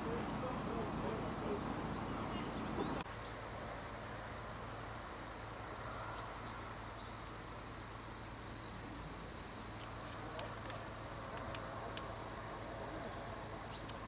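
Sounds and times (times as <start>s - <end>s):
small birds chirping: 0.0s - 3.6s, 4.7s - 12.2s, 12.9s - 14.0s
faint low hum: 0.0s - 14.0s.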